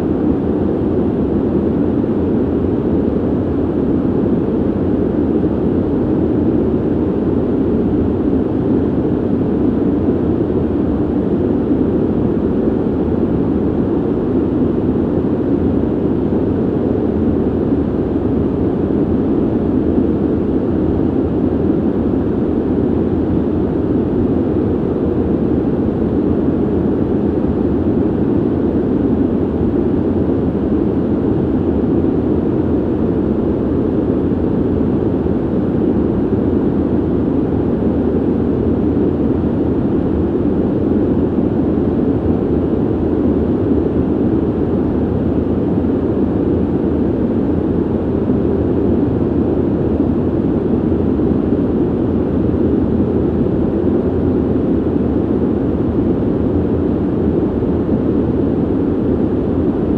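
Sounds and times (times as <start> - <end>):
ventilation air rush: 0.0 - 59.9.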